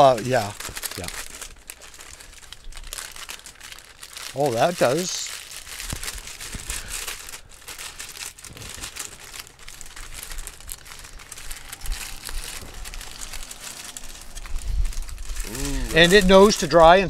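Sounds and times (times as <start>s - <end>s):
wax paper crinkling: 0.0s - 17.0s.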